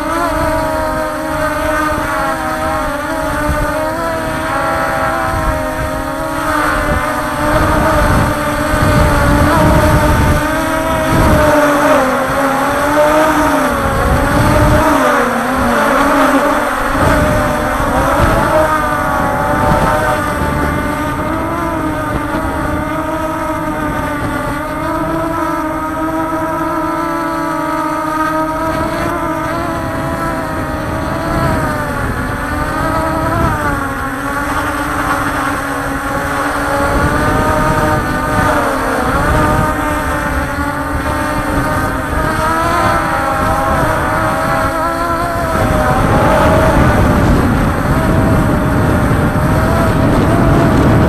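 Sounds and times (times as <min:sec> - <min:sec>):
drone motors whining: 0:00.0 - 0:51.0
wind rumbling on microphone: 0:00.0 - 0:51.0.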